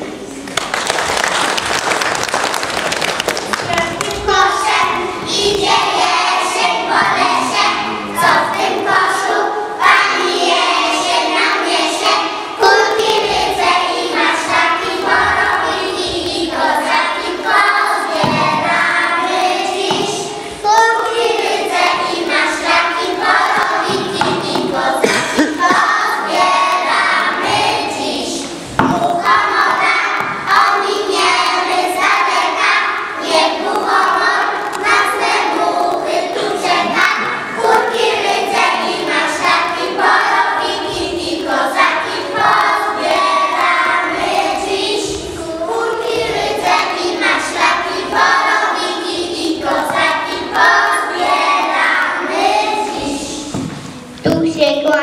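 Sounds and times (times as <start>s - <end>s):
young children singing: 3.4s - 55.0s.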